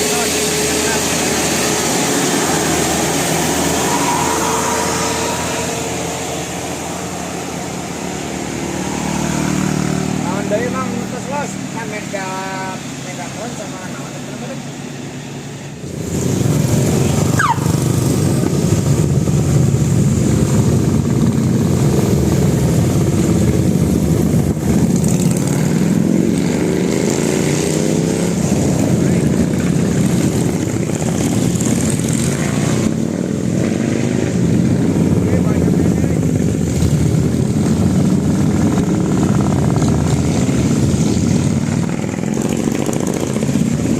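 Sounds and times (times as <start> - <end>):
buses driving past: 0.0 - 43.9.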